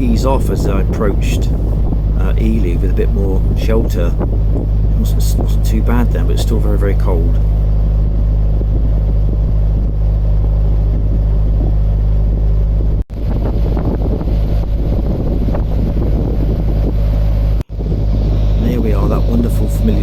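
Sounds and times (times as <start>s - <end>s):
diesel boat engine running: 0.0s - 20.0s
wind buffeting microphone: 0.0s - 20.0s.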